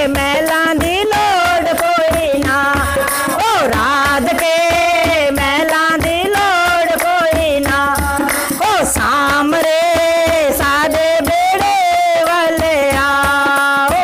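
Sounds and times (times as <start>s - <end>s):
hand-clapping steady beat: 0.0s - 14.0s
women singing together: 0.0s - 14.0s.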